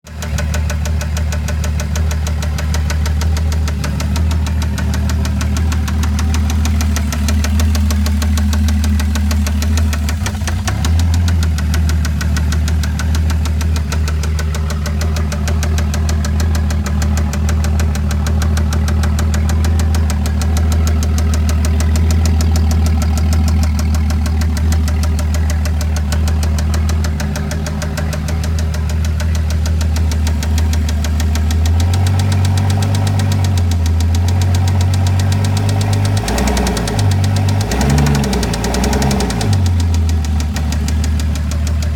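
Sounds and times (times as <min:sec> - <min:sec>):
car engine running: 0:00.0 - 0:41.9
fast regular ticking: 0:00.2 - 0:41.9.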